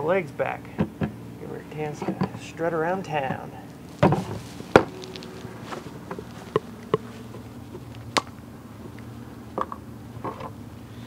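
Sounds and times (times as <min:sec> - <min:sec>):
low buzzing hum: 0:00.0 - 0:11.0.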